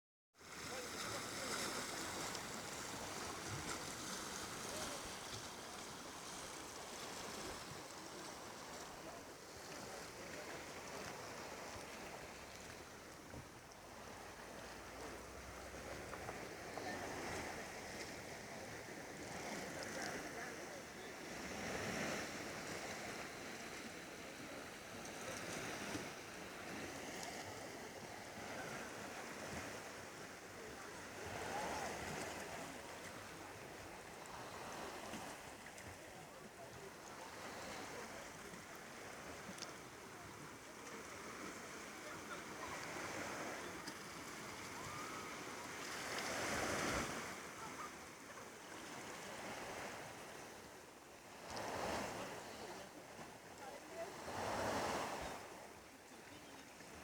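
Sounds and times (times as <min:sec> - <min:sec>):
waves washing onto shore: 0:00.4 - 0:57.0.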